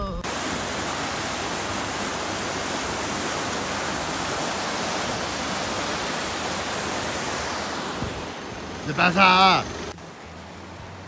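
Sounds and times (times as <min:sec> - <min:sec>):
river rushing over rocks: 0:00.2 - 0:11.0.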